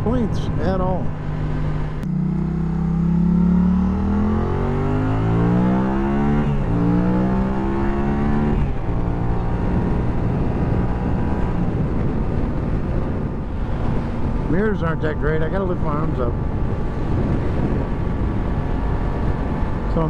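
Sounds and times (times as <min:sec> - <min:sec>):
motorcycle engine revving: 0:00.6 - 0:20.0.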